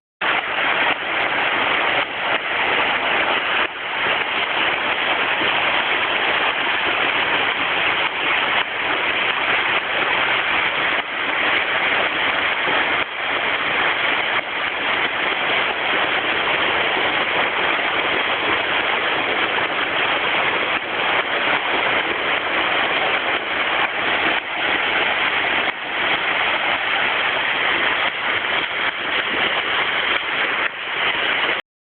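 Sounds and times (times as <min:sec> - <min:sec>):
waterfall pouring: 0:00.2 - 0:31.6.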